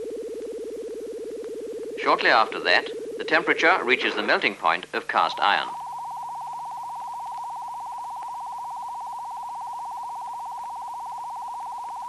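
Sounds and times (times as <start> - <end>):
fluttering electronic tone: 0.0 - 12.0.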